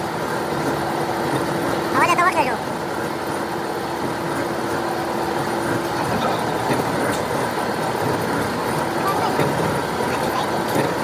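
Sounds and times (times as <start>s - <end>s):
heavy machinery running: 0.0s - 11.0s.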